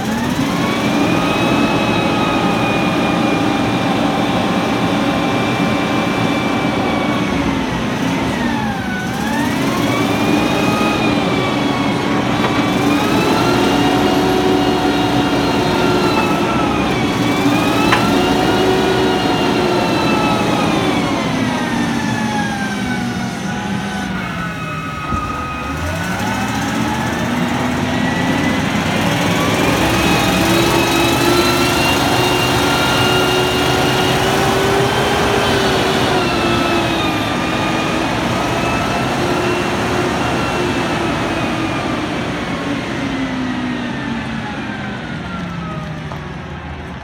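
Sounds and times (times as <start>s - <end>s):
forklift engine running: 0.0s - 47.0s.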